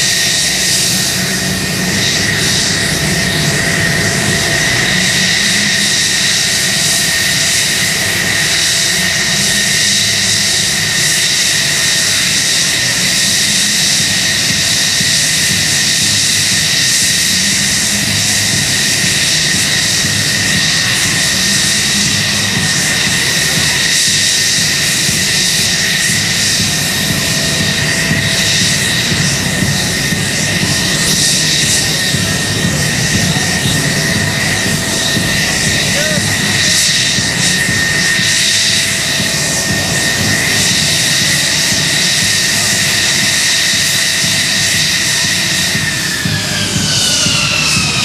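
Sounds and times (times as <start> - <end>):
jet engine idling: 0.0 - 48.0.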